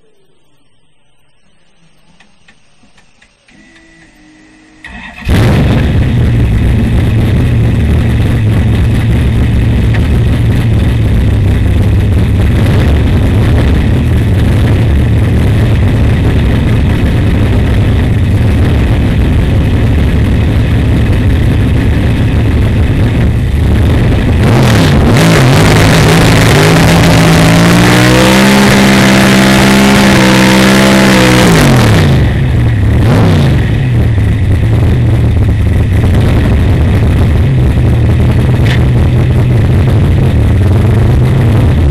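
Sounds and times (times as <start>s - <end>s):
drag car engine rumbling and revving: 1.3s - 41.9s.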